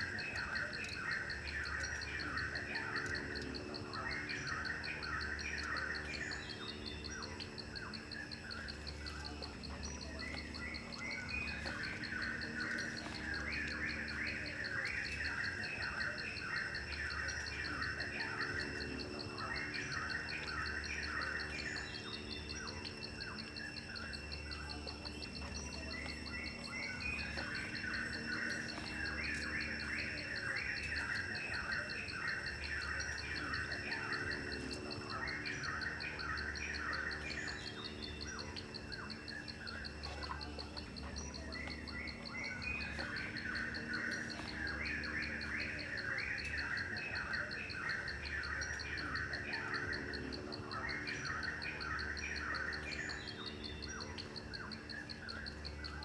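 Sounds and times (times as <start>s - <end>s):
birds chirping: 0.0s - 56.0s
faint low hum: 0.0s - 56.0s
insects trilling: 0.0s - 56.0s.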